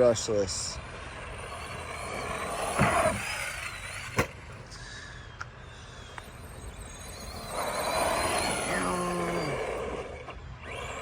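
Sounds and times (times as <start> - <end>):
rc truck motor whirring: 0.0 - 11.0.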